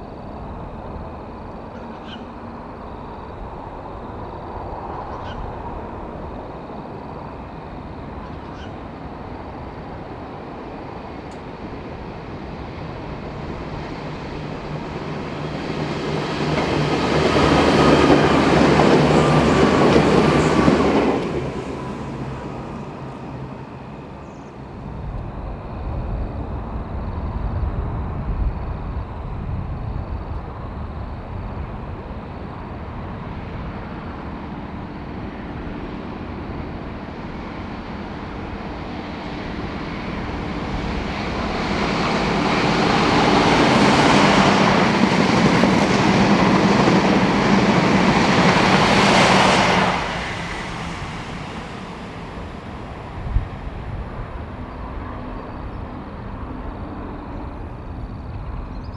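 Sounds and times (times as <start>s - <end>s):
diesel train approaching: 0.0s - 58.9s
diesel train passing at speed: 0.0s - 58.9s.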